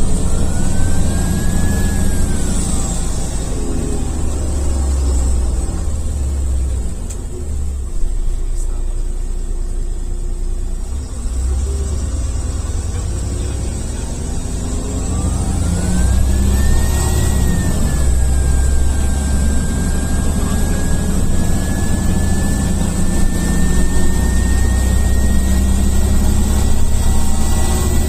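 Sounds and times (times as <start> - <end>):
turbocharger whistle: 0.0 - 6.7, 10.8 - 28.0
bus diesel engine running: 0.0 - 28.0
steady high whine: 0.0 - 28.0.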